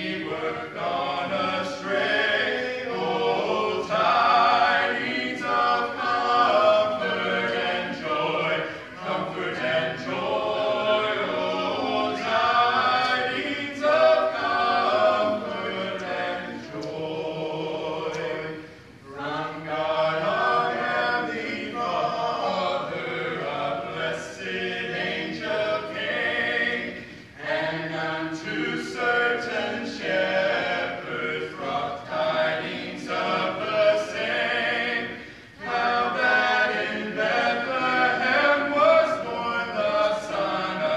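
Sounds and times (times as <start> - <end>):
group singing a cappella: 0.0 - 40.9.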